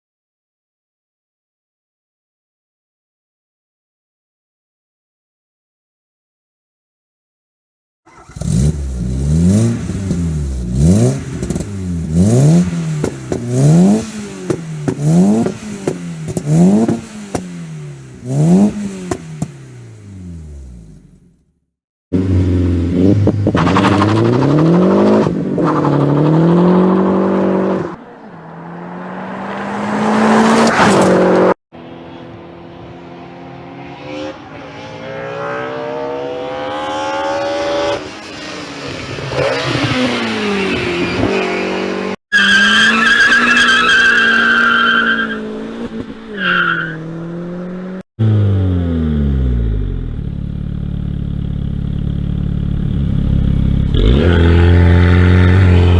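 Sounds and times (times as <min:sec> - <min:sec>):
car engines revving: 0:08.1 - 0:21.3, 0:22.1 - 0:55.9.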